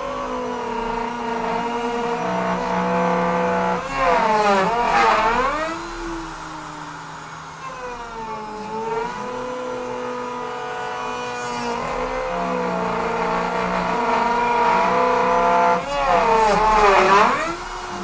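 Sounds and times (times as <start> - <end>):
router spindle whining while cutting wood: 0.0 - 18.0.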